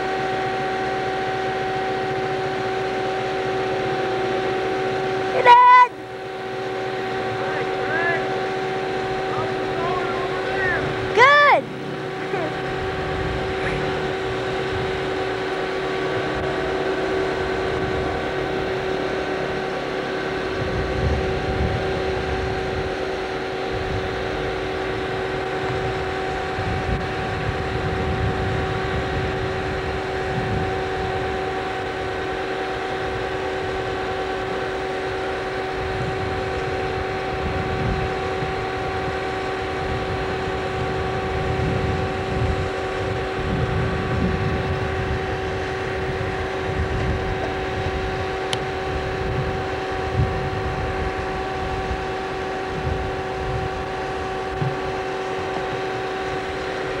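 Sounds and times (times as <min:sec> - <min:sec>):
grain auger rumbling: 0:00.0 - 0:57.0
tractor running: 0:00.0 - 0:57.0.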